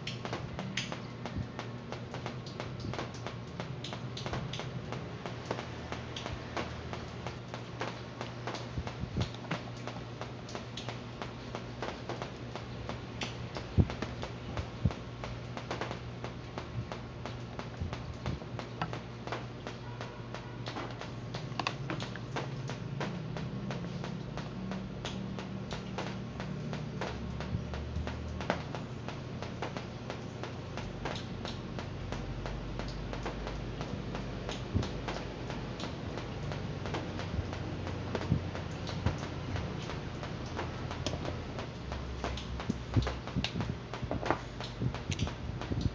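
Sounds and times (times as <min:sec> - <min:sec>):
clicks and taps handling wires: 0:00.0 - 0:45.9
steady low hum: 0:00.0 - 0:45.9.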